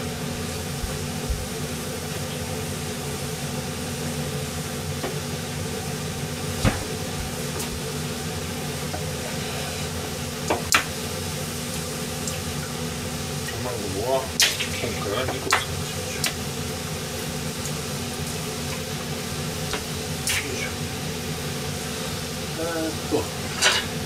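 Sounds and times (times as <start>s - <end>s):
stove hum and hiss: 0.0s - 24.0s.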